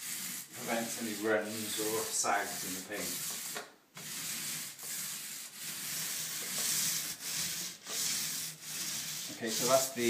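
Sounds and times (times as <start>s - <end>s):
paint roller hissing on wall: 0.0s - 10.0s.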